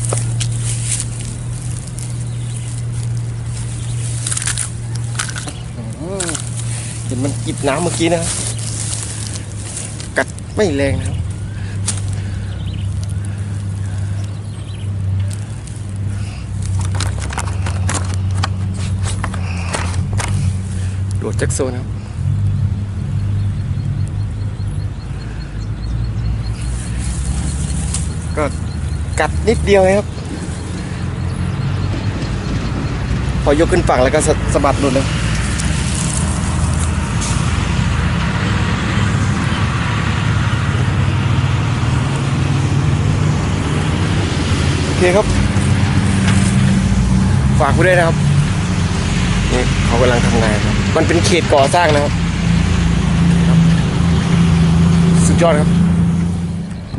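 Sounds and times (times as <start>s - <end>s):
low engine hum: 0.0s - 56.9s.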